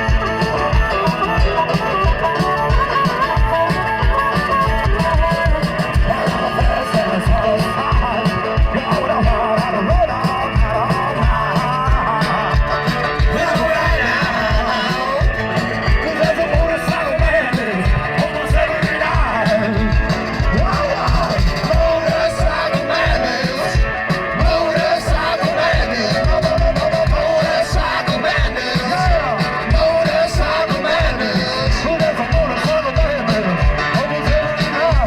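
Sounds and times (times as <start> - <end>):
driving drum beat: 0.0 - 35.0
rock and roll band playing live: 0.0 - 35.0.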